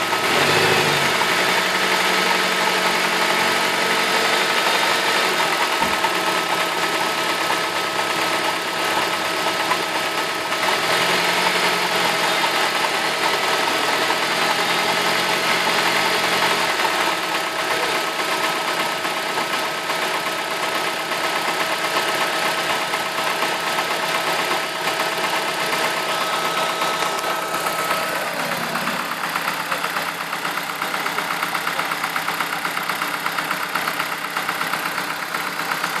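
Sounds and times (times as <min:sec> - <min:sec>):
car engine idling with knocking: 0:00.0 - 0:36.0.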